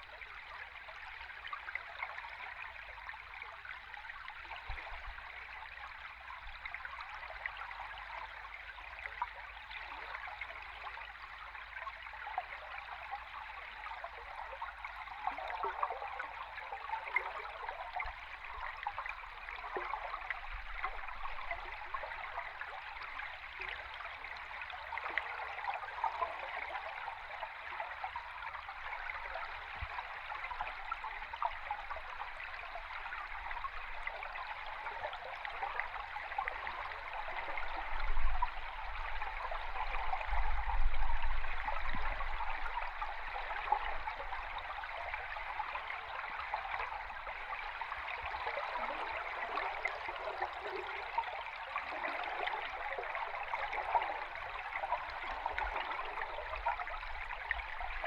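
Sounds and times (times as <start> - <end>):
underwater flowing water and bubbles: 0.0 - 58.0.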